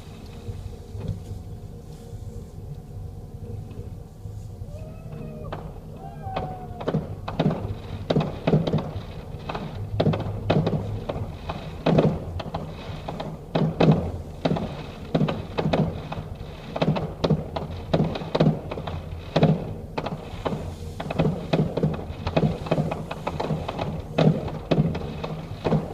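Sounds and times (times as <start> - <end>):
low rumble: 0.0 - 25.9
fireworks bangs: 5.1 - 25.9.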